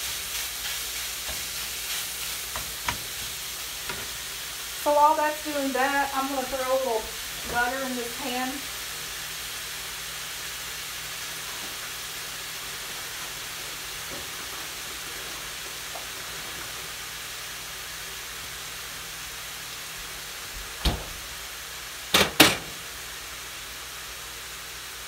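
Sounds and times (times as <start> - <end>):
sausage sizzling in a frying pan: 0.0 - 25.0.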